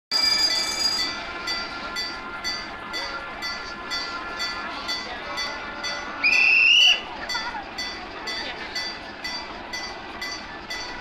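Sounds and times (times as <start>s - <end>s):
railway warning bell ringing: 0.1s - 11.0s.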